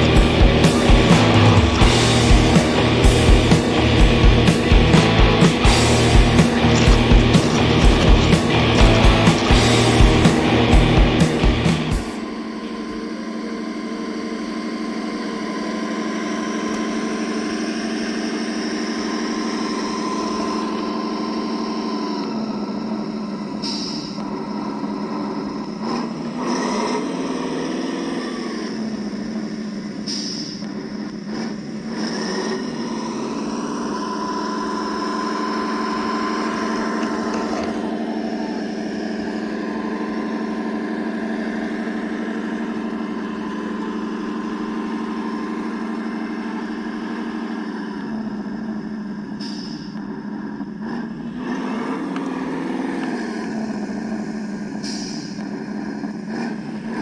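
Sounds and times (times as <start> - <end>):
electric drivetrain whine: 0.0 - 57.0
simulated truck engine sound: 0.0 - 57.0.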